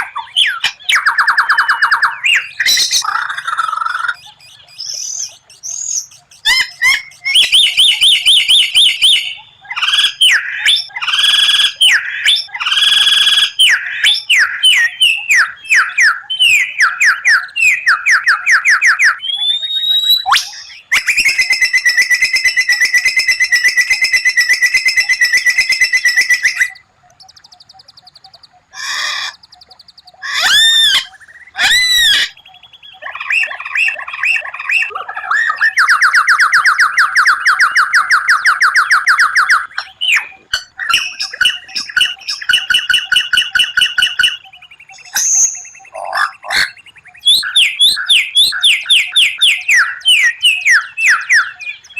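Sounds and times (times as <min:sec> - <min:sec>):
bird singing rapid trills: 0:00.0 - 0:51.9
bird whistled notes: 0:00.0 - 0:51.9.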